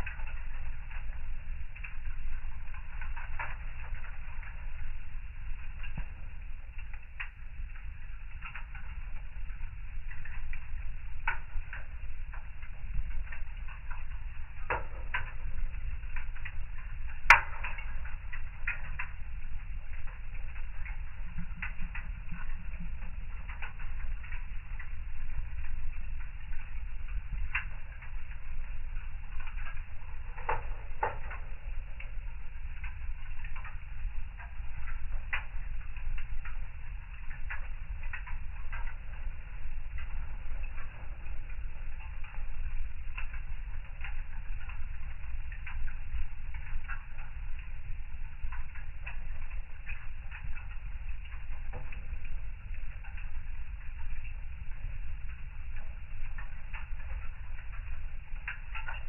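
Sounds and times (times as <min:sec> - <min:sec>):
fire crackling in fireplace: 0:00.0 - 0:59.0
low steady rumble: 0:00.0 - 0:59.0.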